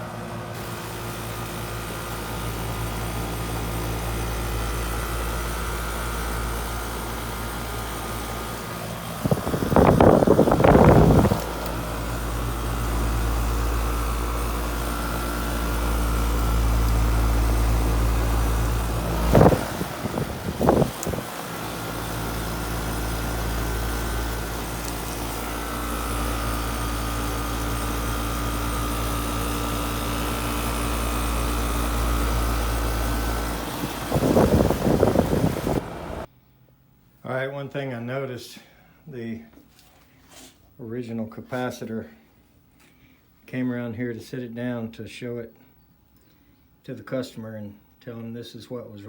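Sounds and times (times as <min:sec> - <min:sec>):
low mechanical hum: 0:00.0 - 0:49.0.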